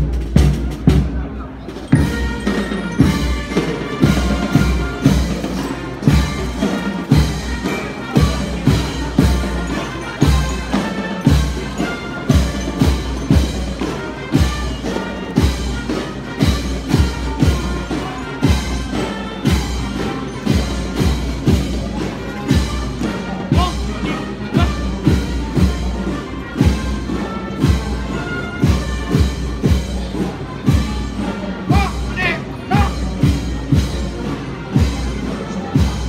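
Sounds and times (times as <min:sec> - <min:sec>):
marching band brass: 0:00.0 - 0:36.0.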